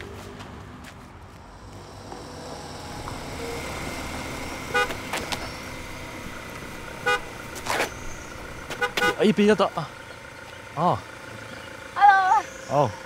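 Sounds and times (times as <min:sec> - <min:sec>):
vehicle approaching: 0:00.0 - 0:13.0.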